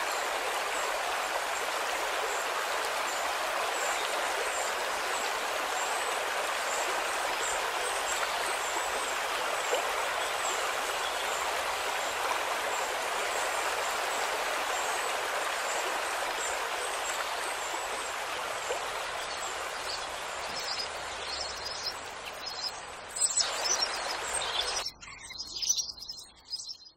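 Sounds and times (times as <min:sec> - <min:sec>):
flowing water: 0:00.0 - 0:24.9.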